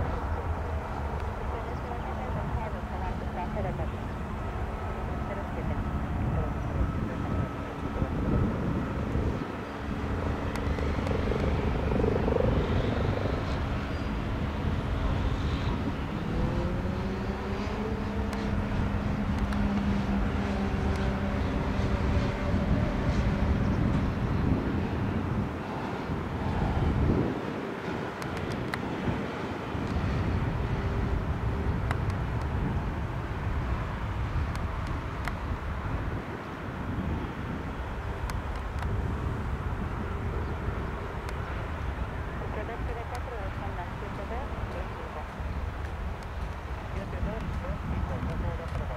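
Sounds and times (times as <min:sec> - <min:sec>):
faint high turbine whine: 0:00.0 - 0:48.9
helicopter rotor and engine: 0:00.0 - 0:48.9.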